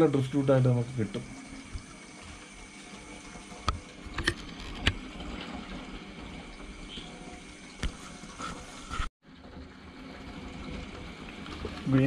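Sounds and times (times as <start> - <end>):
aquarium water trickling: 0.0 - 12.0.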